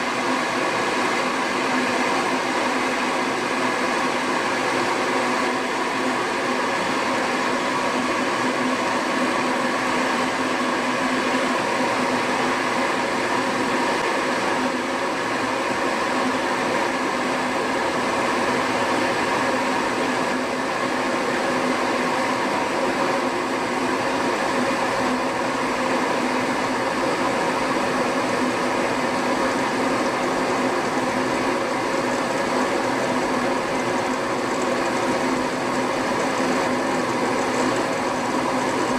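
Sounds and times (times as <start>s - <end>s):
electric kettle heating water: 0.0s - 38.9s.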